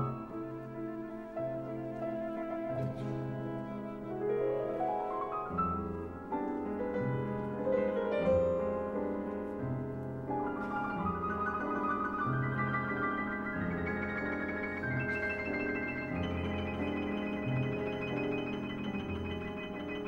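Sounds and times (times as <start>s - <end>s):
pianos with orchestra: 0.0s - 20.0s.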